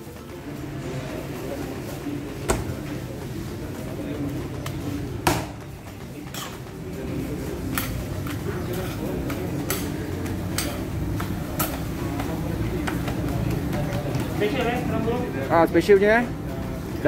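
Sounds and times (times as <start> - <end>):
background murmur: 0.0 - 17.0.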